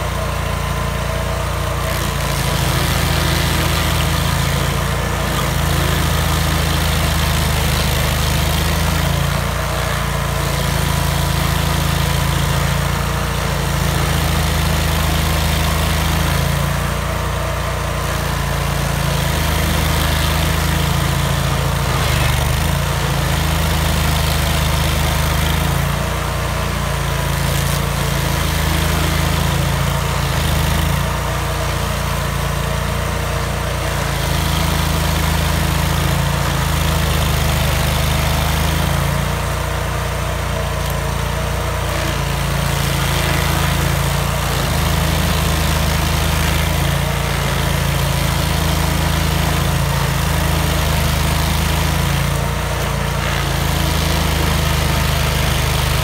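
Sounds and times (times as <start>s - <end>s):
stump grinder grinding wood: 0.0s - 56.0s.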